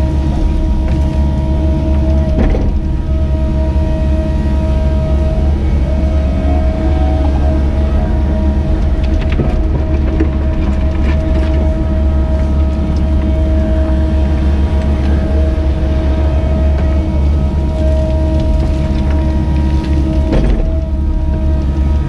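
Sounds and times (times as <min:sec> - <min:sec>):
excavator engine with high whine: 0:00.0 - 0:22.0.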